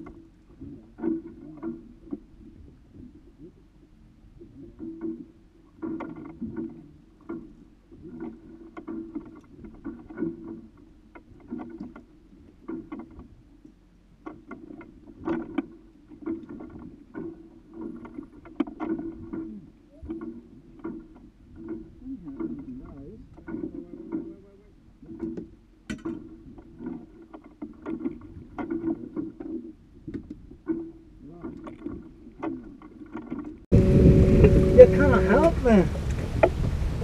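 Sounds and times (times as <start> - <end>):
water lapping against boat hull: 0.0 - 37.0.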